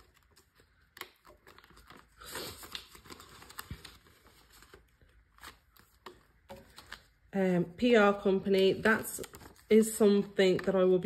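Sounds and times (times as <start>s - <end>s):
plastic and paper crinkling: 0.0s - 11.0s.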